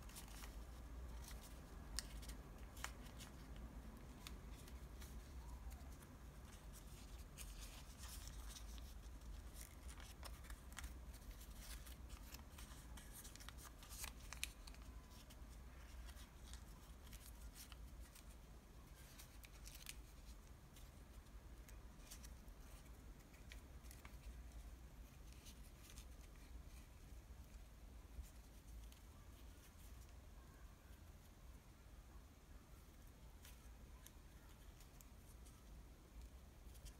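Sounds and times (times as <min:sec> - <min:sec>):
paper crinkling and crackling: 0:00.0 - 0:30.7, 0:32.8 - 0:36.9.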